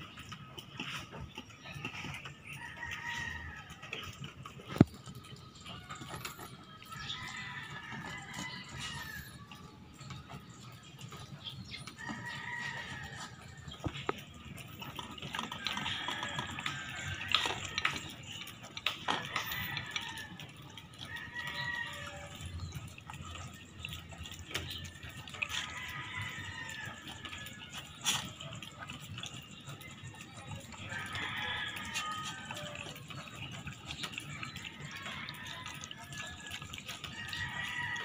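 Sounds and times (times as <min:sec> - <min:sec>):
dog eating wet smacking: 0:00.0 - 0:38.0.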